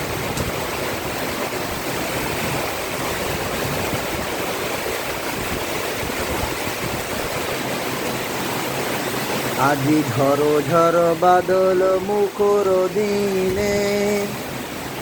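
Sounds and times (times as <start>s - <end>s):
heavy rain pouring: 0.0s - 15.0s
water running off: 0.0s - 15.0s.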